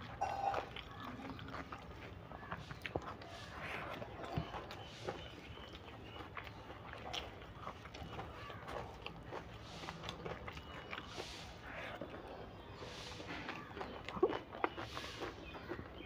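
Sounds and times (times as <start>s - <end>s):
chewing with wet mouth clicks: 0.0s - 16.0s.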